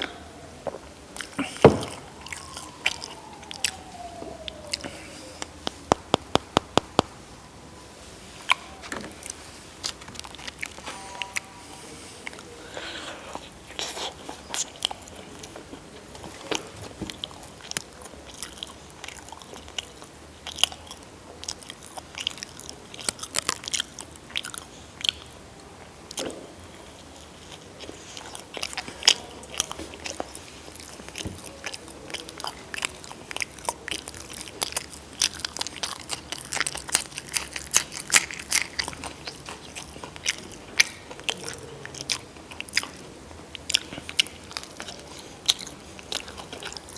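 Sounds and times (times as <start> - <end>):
person chewing crunchy food: 0.1 - 7.1, 8.4 - 25.4, 26.1 - 46.9.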